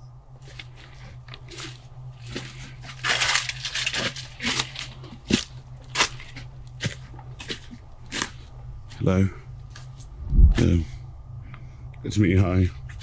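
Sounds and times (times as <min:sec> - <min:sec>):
low steady hum: 0:00.0 - 0:13.0
rustling and crunching: 0:00.3 - 0:11.0, 0:12.6 - 0:13.0.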